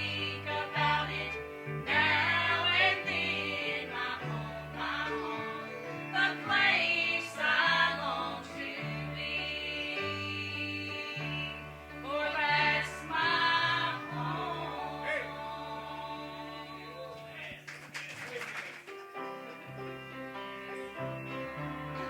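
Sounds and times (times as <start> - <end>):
gospel singing with instruments: 0.0 - 18.0.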